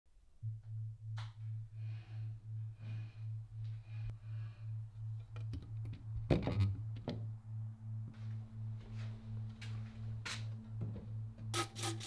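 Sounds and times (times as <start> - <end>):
higher steady tone: 0.4 - 11.5
pulsing low electronic tone: 0.4 - 11.5.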